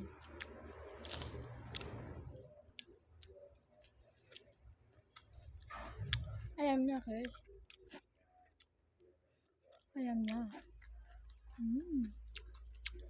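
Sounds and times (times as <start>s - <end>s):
chewing clicks: 0.0s - 13.0s.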